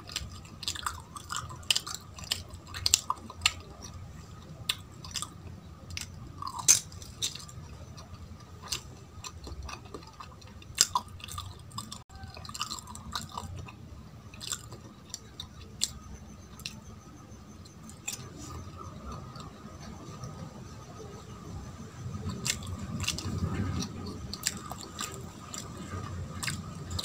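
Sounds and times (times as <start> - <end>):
crunching of crisp sweet: 0.0 - 20.4, 21.2 - 27.0
wet chewing mouth sounds: 0.0 - 20.4, 22.1 - 27.0.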